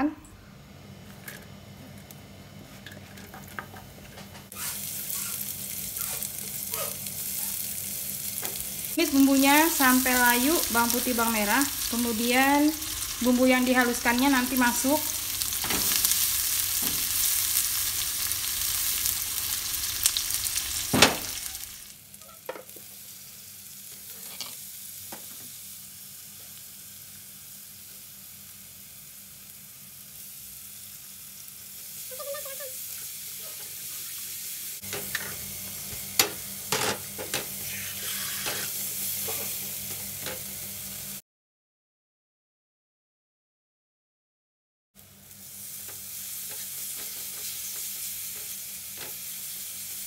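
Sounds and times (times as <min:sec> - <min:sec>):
shallots sizzling in hot oil: 0:04.5 - 0:41.1, 0:45.0 - 0:50.0.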